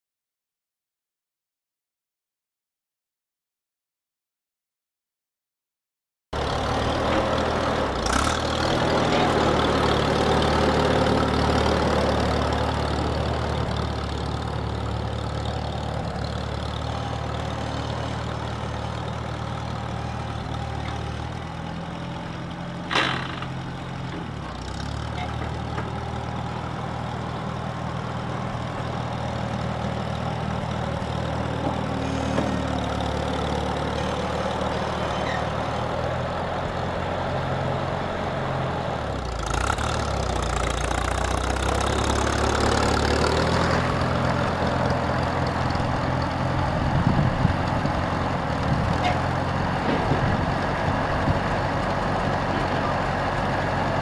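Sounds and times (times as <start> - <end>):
tractor engine running: 6.4 - 54.0.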